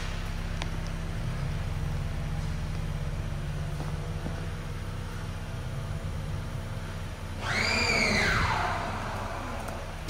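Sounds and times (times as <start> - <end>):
car engine idling: 0.0 - 10.0
rising whine: 0.0 - 10.0.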